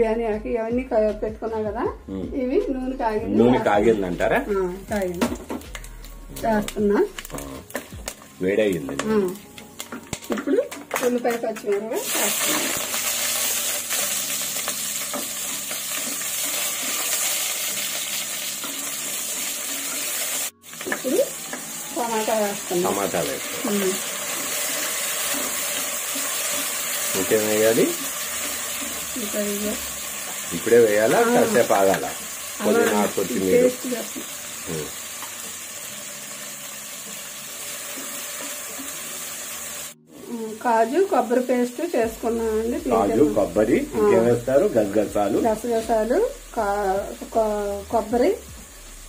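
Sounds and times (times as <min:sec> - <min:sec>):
onions sizzling in hot oil: 0:03.3 - 0:49.0.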